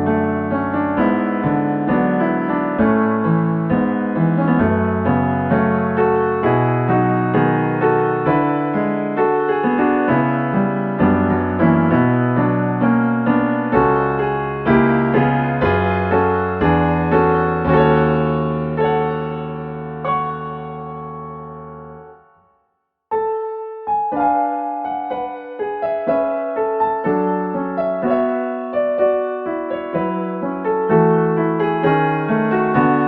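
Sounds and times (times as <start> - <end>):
gentle solo piano music: 0.0 - 33.0.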